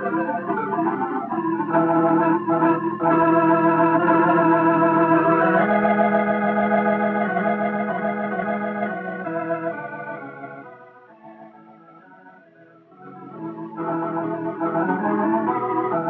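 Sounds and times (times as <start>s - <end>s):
organ chords: 0.0s - 16.0s.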